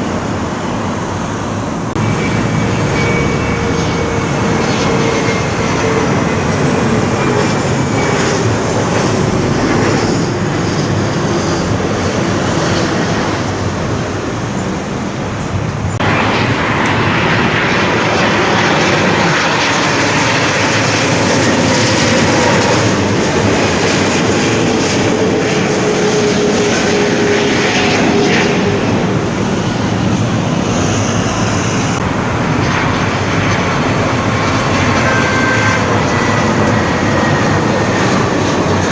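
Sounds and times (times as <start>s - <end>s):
jet airliner flying overhead: 0.0s - 38.9s.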